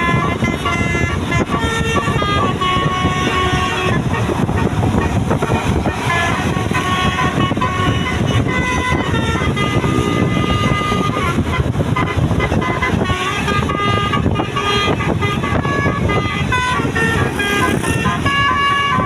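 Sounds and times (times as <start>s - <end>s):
multi-tone bus horn tune: 0.0s - 19.0s.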